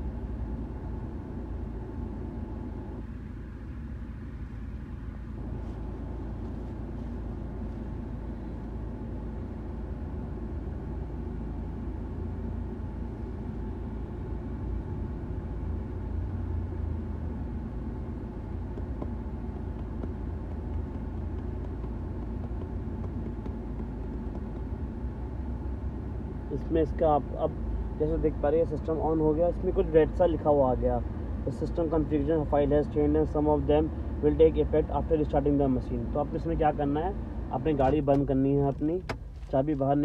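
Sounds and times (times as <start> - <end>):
car engine idling inside cabin: 0.0 - 40.0.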